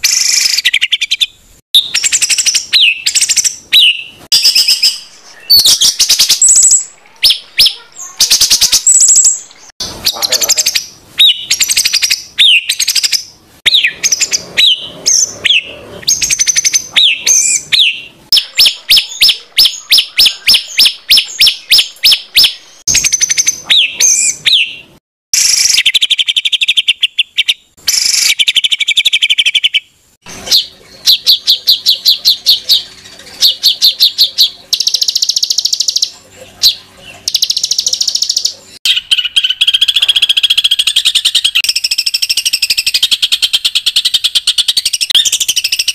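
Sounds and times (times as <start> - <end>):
harsh repeated bird notes: 0.0 - 45.9
songbirds singing whistled phrases: 0.0 - 45.9.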